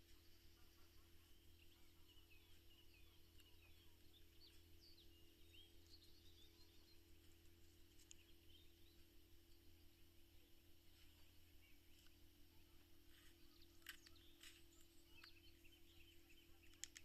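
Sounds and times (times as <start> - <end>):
faint bird chirps: 0.0 - 17.0
steady low hum: 0.0 - 17.0.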